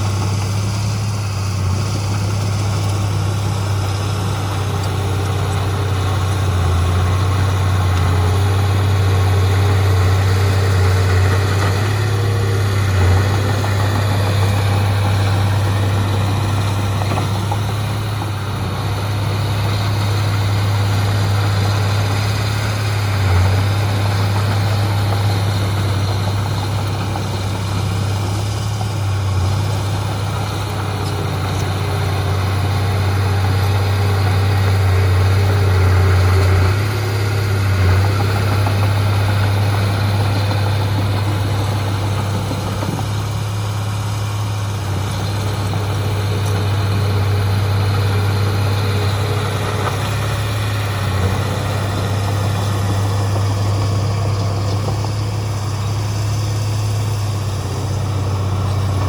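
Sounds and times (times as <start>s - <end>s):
heavy diesel machinery droning: 0.0s - 59.0s.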